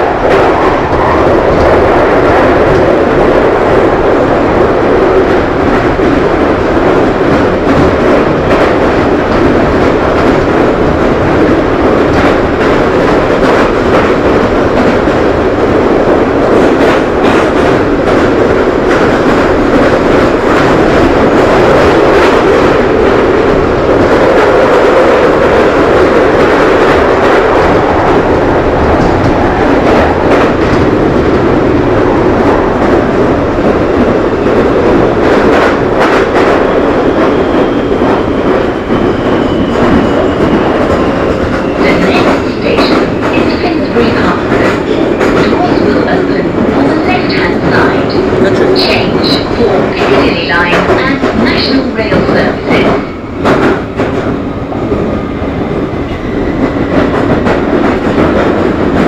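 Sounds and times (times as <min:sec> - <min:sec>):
rail joint clicks: 0:00.0 - 0:59.0
train wheels rumbling on rail: 0:00.0 - 0:59.0.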